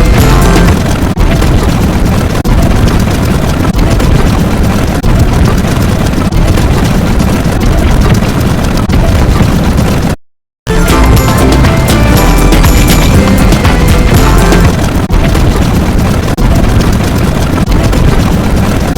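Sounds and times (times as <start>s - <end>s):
distorted rumbling: 0.0s - 18.9s.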